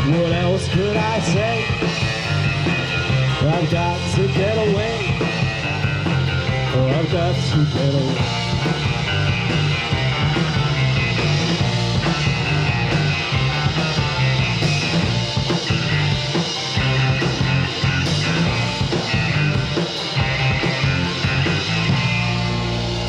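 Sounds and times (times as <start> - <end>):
drum kit: 0.0 - 23.0
electric bass: 0.0 - 23.0
electric guitars: 0.0 - 23.0.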